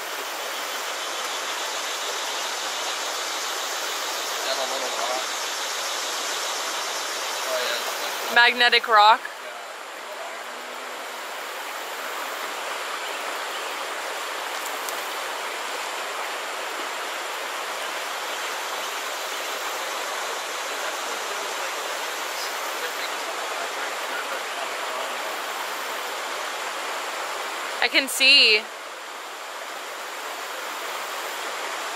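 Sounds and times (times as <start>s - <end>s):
water flowing over rocks: 0.0s - 31.9s.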